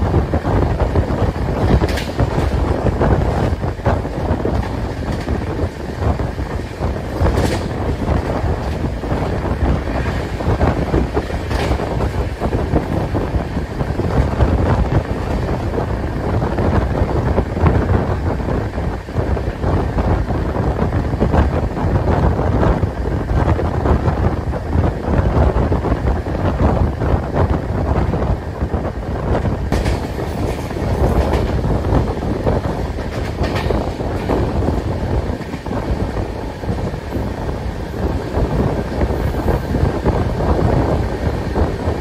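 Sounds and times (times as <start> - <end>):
train wheels rumbling on rails: 0.0 - 42.0
wind buffeting microphone: 0.0 - 42.0.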